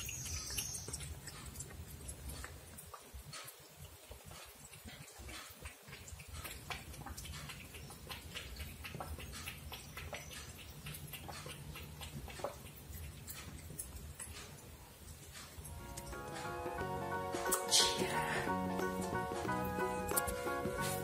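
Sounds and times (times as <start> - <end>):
cat lapping water: 0.0 - 21.0.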